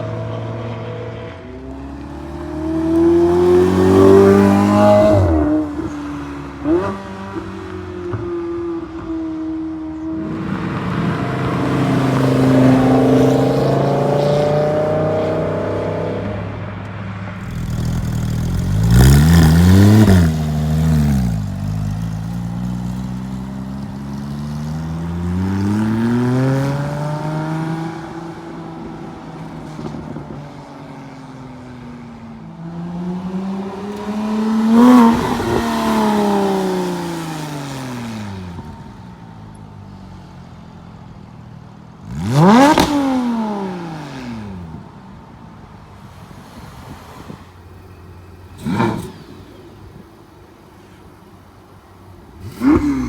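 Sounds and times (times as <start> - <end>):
performance cars driving past: 0.0 - 53.0.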